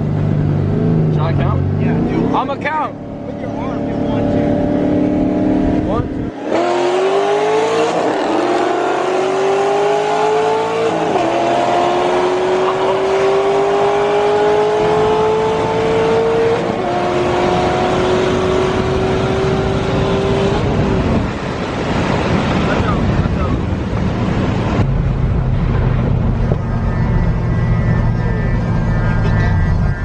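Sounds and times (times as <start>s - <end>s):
car engine accelerating through gears: 0.0s - 30.0s.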